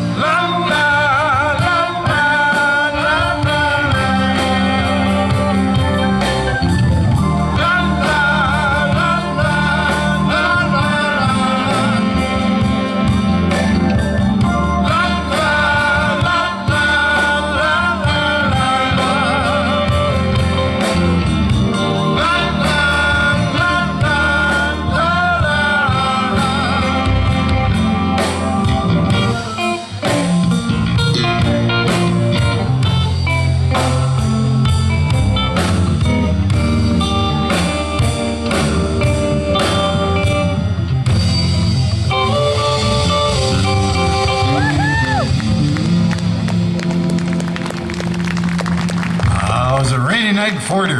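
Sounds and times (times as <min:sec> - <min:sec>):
live band soul ballad: 0:00.0 - 0:50.4.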